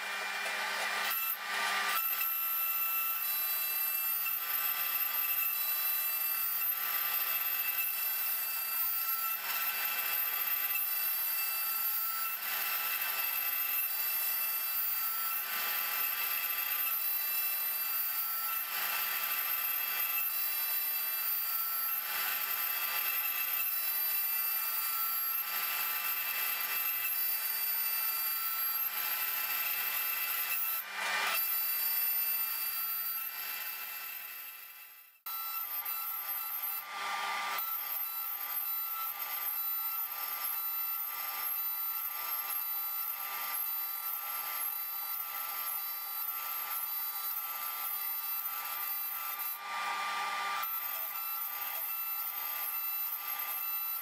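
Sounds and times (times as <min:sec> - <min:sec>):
end mill cutting wood: 0:00.0 - 0:54.0
router spindle whine: 0:00.0 - 0:54.0.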